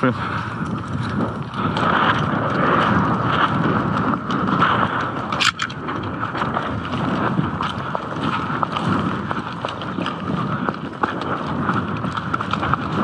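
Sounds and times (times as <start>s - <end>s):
footsteps on dirt path: 0.0s - 13.0s
wind noise on microphone: 0.0s - 13.0s.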